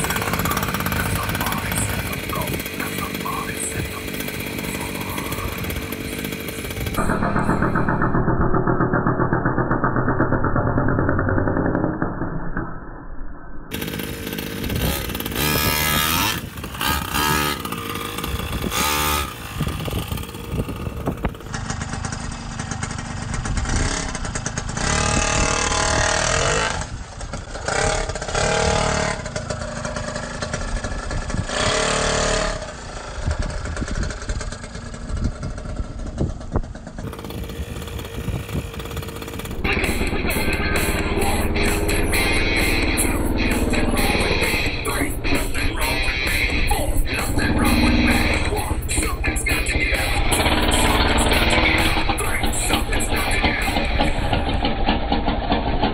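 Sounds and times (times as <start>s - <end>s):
rc truck engine revving: 0.0s - 12.7s, 13.7s - 55.9s.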